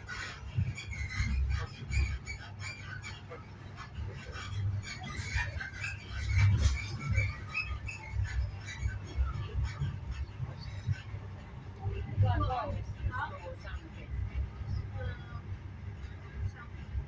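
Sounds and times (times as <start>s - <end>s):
train carriage rumbling on track: 0.0s - 17.0s.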